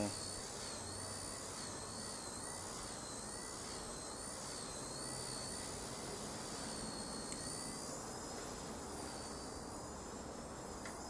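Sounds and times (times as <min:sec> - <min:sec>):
rotor hiss: 0:00.0 - 0:11.0
toy helicopter motor whine: 0:00.0 - 0:11.0.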